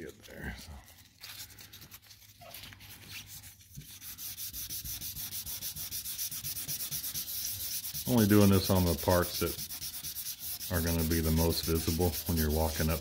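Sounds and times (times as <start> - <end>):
wet sandpaper rubbing on panel: 1.3 - 13.0.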